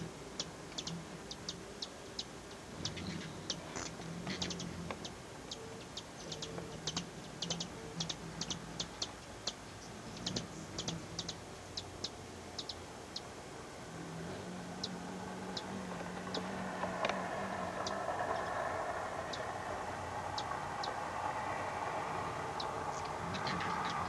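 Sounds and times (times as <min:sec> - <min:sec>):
hummingbird chip notes: 0:00.0 - 0:24.0
hummingbird wings humming: 0:00.0 - 0:24.0.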